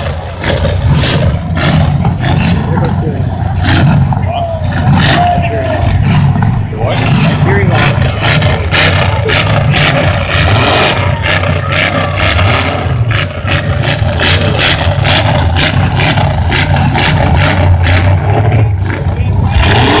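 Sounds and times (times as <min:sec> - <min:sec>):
car engines running loudly: 0:00.0 - 0:20.0.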